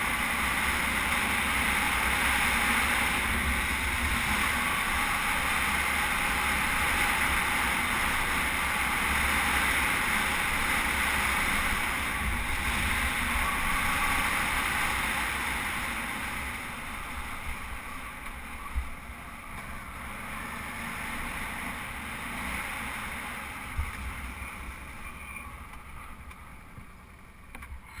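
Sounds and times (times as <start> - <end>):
motorcycle engine: 0.0 - 28.0
wind rush on camera: 0.0 - 28.0.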